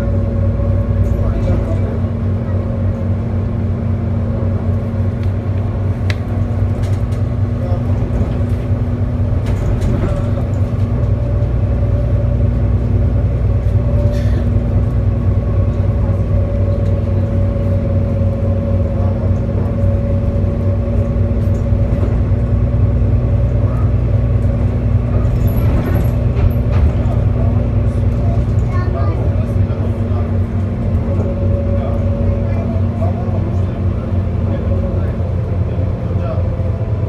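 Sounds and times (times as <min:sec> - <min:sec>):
bus engine hum: 0:00.0 - 0:37.0
road noise: 0:00.0 - 0:37.0.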